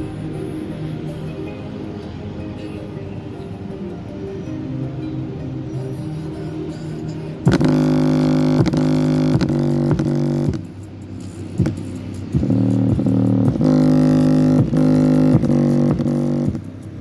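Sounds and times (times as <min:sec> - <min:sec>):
bass-heavy music from speaker: 0:00.0 - 0:17.0.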